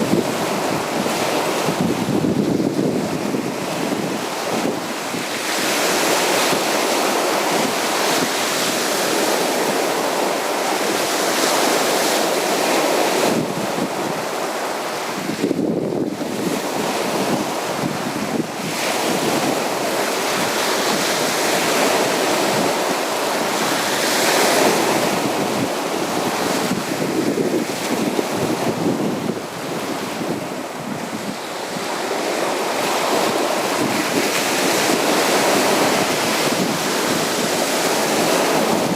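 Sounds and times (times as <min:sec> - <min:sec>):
waves washing onto beach: 0:00.0 - 0:38.9.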